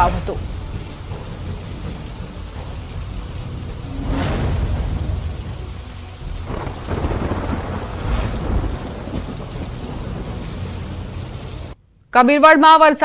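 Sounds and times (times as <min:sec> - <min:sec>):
rain hissing: 0:00.0 - 0:11.8
thunder rumbling: 0:00.0 - 0:11.8.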